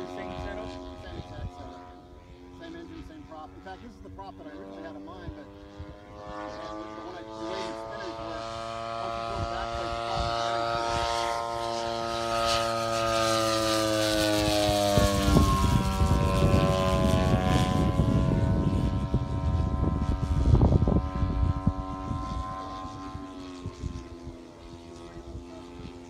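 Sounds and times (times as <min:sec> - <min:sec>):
model aircraft motor drone: 0:00.0 - 0:26.0.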